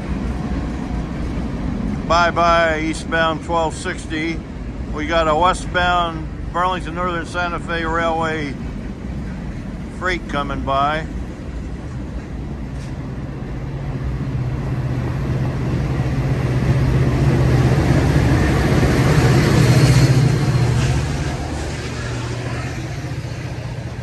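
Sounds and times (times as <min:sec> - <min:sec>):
freight train passing: 0:00.0 - 0:24.0.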